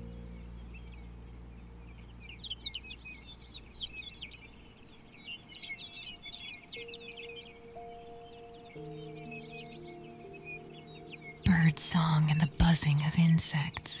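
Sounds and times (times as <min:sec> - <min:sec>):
small birds chirping: 0:00.0 - 0:14.0
soft held music tones: 0:00.0 - 0:14.0.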